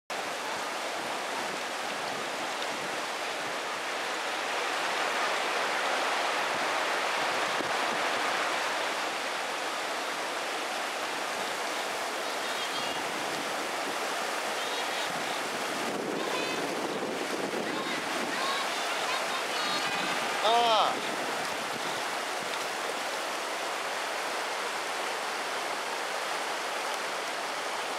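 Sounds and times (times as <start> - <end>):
river water rushing: 0.1 - 27.9.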